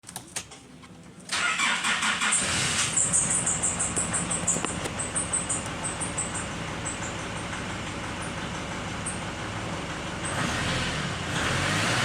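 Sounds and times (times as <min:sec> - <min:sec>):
car engine idling: 0:01.3 - 0:11.3.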